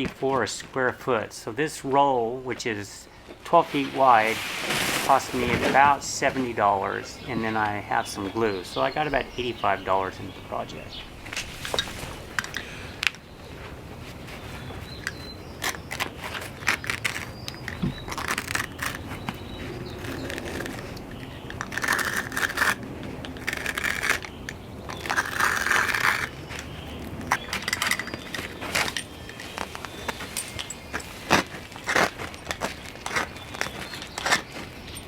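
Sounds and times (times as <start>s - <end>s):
materials rustling and scraping: 0.0s - 35.0s.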